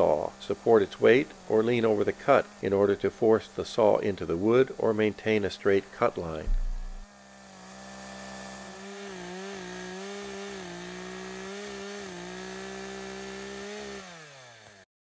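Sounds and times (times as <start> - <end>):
chainsaw cutting log: 0.0 - 14.9.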